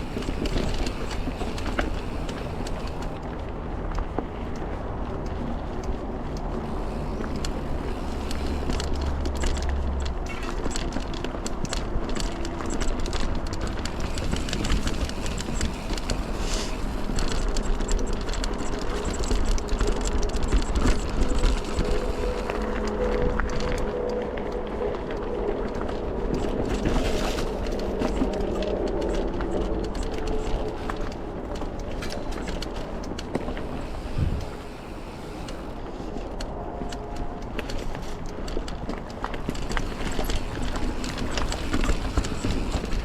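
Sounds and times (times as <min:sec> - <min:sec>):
bike clicking and rattling: 0:00.0 - 0:43.0
bike tyres rumbling on trail: 0:00.0 - 0:43.0.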